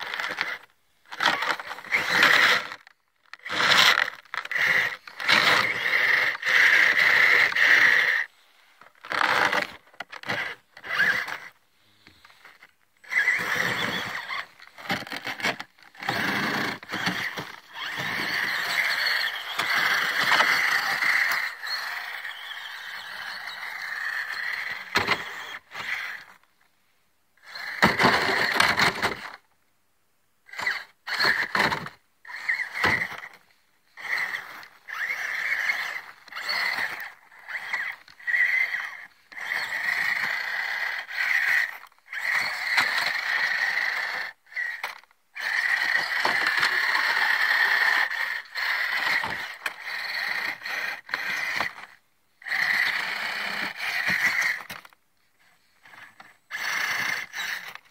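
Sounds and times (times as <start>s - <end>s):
electric motor and gears whining: 0.0s - 26.4s, 27.4s - 29.4s, 30.4s - 55.0s, 55.7s - 57.9s.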